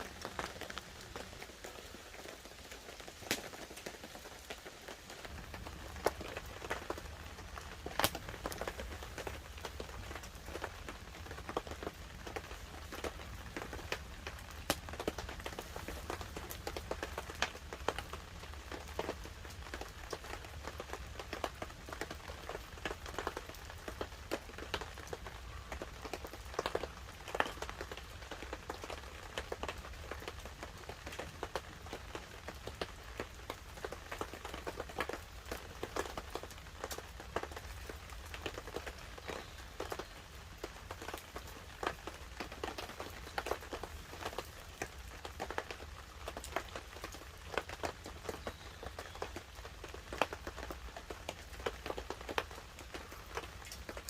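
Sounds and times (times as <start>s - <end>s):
light rain on a tarp: 0.0s - 54.0s
wood fire crackling: 0.0s - 54.0s.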